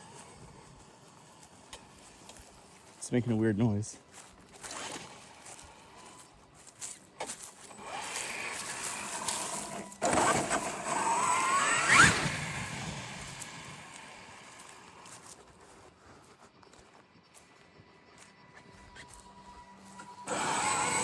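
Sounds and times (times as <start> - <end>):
electric motor whine: 0.0 - 3.4, 4.1 - 15.6, 16.7 - 21.0
rumble of tyres and gears: 0.0 - 21.0.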